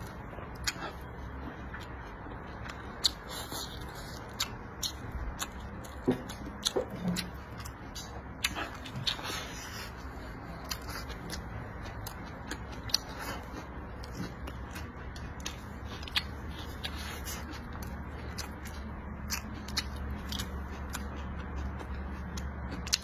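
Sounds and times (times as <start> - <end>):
man chewing and smacking: 0.0 - 23.0.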